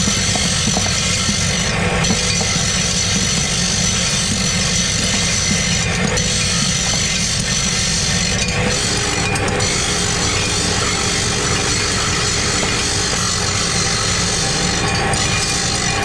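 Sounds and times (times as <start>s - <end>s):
workshop machinery drone: 0.0s - 16.0s.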